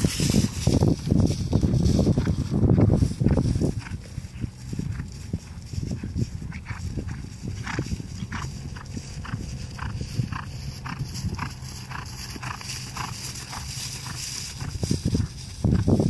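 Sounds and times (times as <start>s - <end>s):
horse hoofbeats cantering: 0.0s - 16.0s
low rumble: 0.0s - 16.0s.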